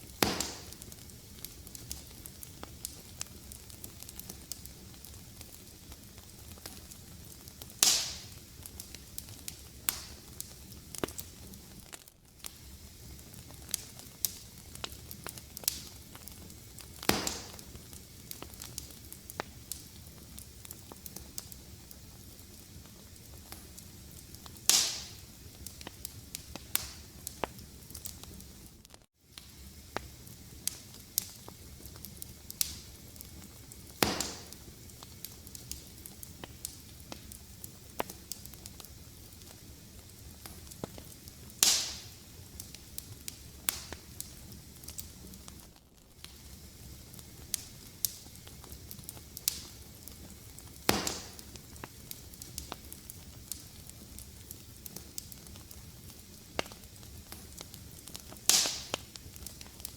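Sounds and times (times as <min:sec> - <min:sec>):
fire crackling: 0:00.0 - 0:59.9
loud fire pops: 0:00.0 - 0:59.9.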